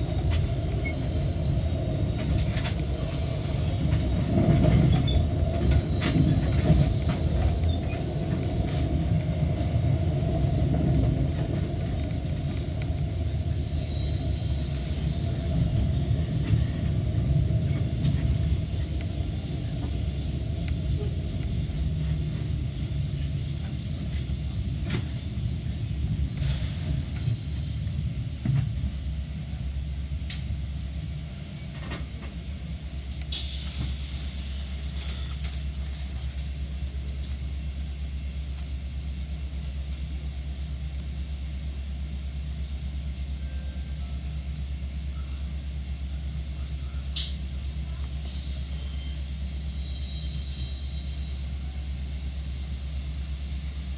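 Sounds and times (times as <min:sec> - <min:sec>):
train rumbling on tracks: 0:00.0 - 0:53.9.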